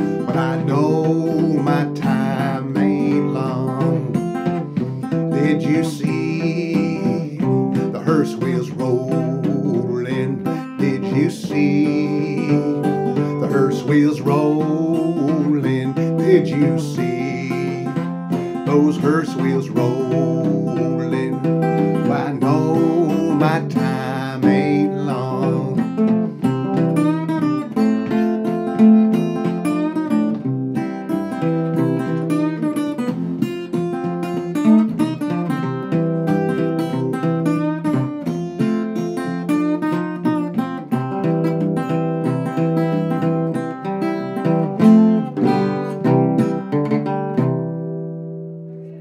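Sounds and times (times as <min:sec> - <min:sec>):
acoustic blues guitar playing: 0:00.0 - 0:49.0.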